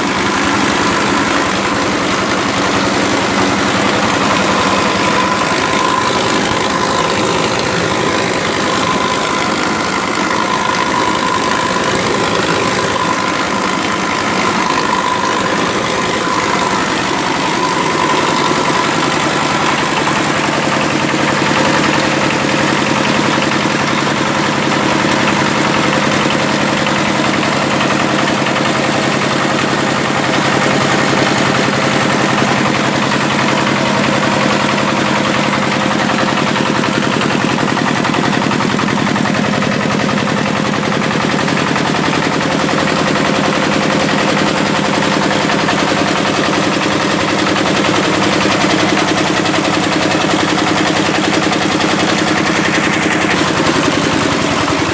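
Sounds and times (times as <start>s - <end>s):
rice mill machinery noise: 0.0s - 54.9s
tiller engine running: 0.0s - 54.9s.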